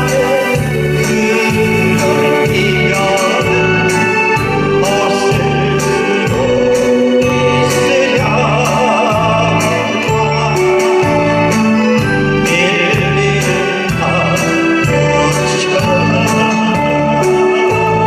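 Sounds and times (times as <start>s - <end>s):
keyboard chords: 0.0s - 18.0s
live pop band: 0.0s - 18.0s
person singing: 0.0s - 18.0s.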